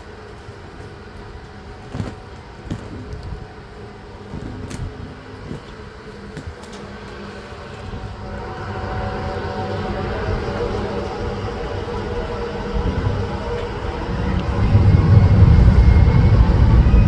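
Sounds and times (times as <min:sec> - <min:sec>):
mechanical rumble with low hum: 0:01.5 - 0:17.0.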